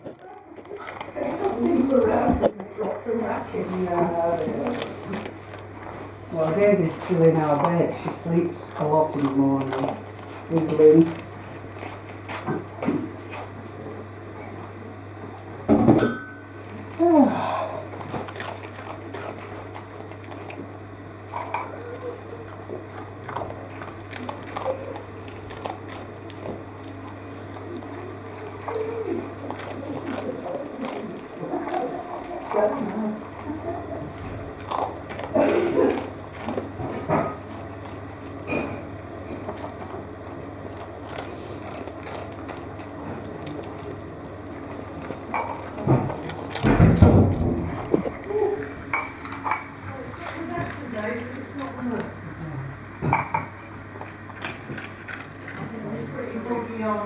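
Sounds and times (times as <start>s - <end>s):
dog eating from food bowl: 0.0s - 57.0s.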